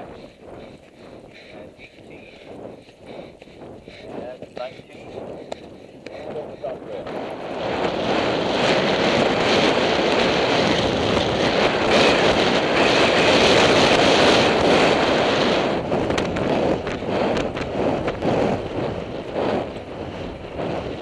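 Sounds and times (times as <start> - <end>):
wind roaring over microphone: 0.0 - 21.0.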